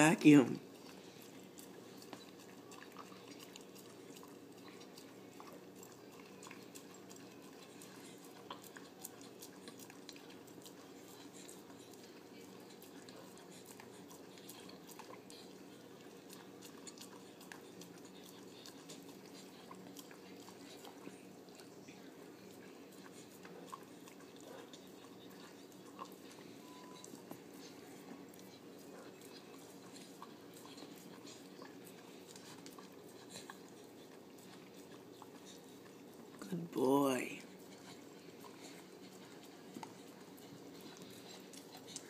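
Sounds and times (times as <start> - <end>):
dog licking and lapping: 0.0 - 42.0.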